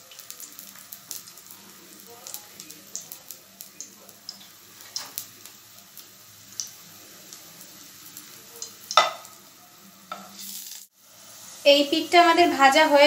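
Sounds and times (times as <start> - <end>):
oil sizzling with spitting pops: 0.0 - 13.0.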